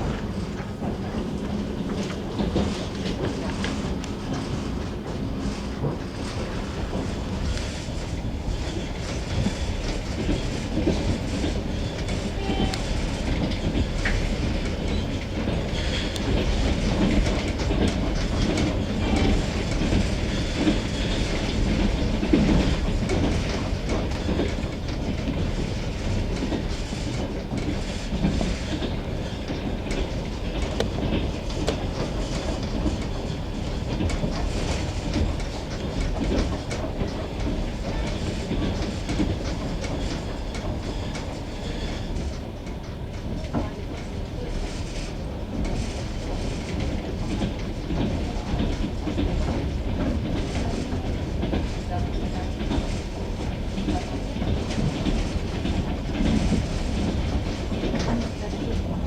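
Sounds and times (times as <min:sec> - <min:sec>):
steady rolling rumble: 0:00.0 - 0:59.0
train wheels clattering on rails: 0:00.0 - 0:59.0.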